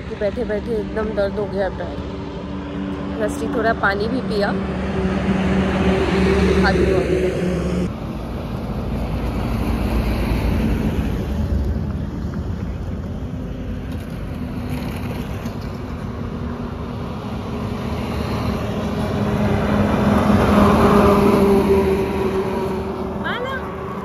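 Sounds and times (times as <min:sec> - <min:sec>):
road vehicle low rumble: 0:00.0 - 0:24.0.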